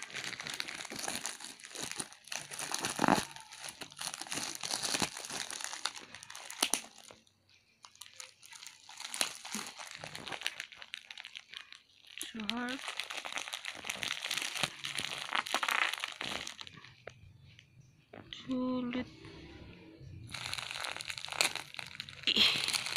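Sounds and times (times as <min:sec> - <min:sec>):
plastic mailer bag crinkling: 0:00.0 - 0:07.2, 0:07.8 - 0:16.9, 0:20.3 - 0:22.9.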